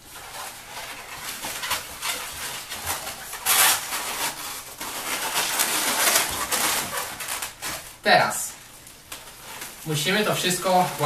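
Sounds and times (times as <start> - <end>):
balloons squeaking and rubbing: 0.0 - 11.0.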